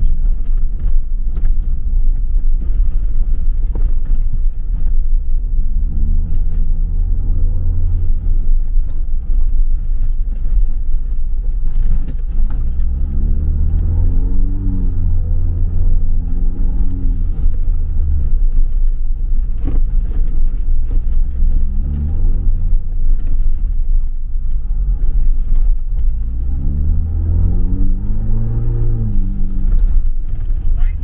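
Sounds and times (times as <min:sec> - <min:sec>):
car engine accelerating: 0:00.0 - 0:31.0
low road rumble: 0:00.0 - 0:31.0.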